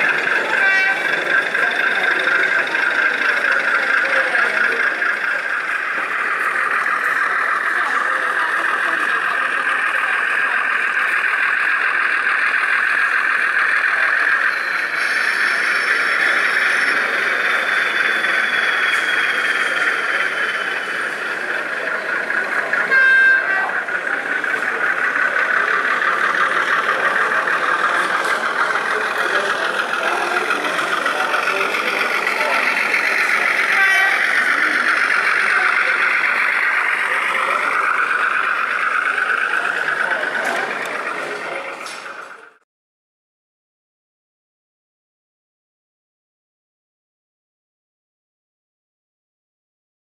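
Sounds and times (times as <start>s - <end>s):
model locomotive horn toot: 0.0s - 41.2s
steady background din: 0.0s - 42.6s.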